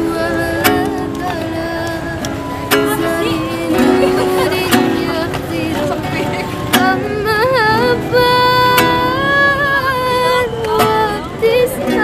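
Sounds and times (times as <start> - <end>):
strummed classical guitar: 0.0 - 12.0
woman singing: 0.0 - 12.0.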